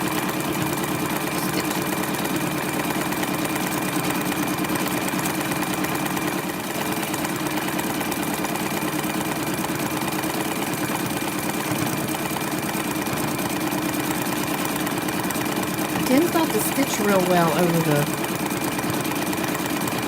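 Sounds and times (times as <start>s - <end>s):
sewing machine stitching: 0.0s - 20.0s.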